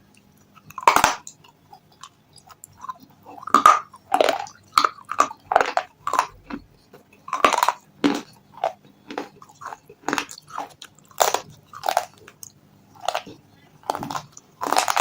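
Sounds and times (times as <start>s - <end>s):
mouth crunching brittle food: 0.0s - 15.0s.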